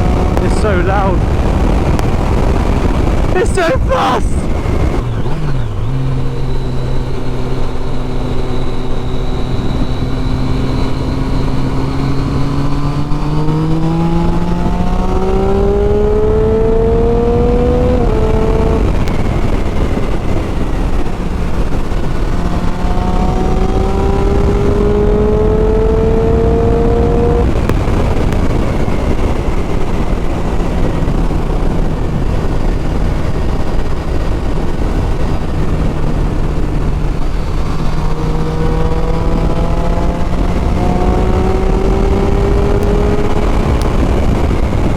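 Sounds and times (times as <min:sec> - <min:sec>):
heavy wind rush: 0:00.0 - 0:44.9
motorcycle engine accelerating: 0:00.0 - 0:44.9.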